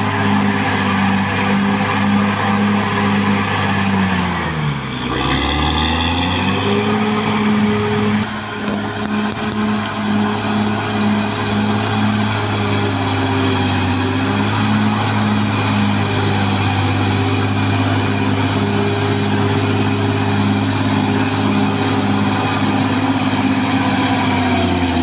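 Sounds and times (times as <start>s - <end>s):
bulldozer diesel engine droning: 0.0s - 25.0s.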